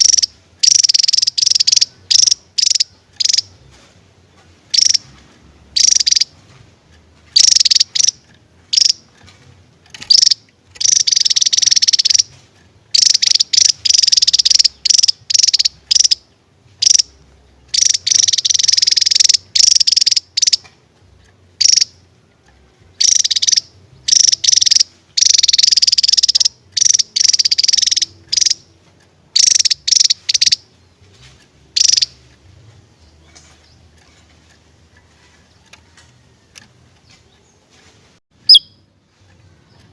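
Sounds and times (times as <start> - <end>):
bird buzzy rattling song: 0.0 - 39.9.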